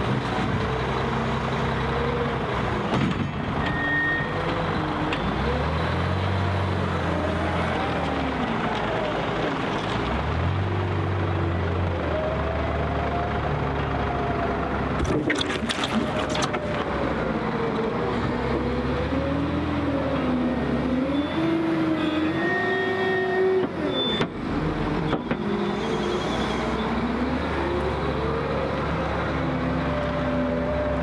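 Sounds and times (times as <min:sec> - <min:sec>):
wheel loader diesel engine: 0:00.0 - 0:31.0.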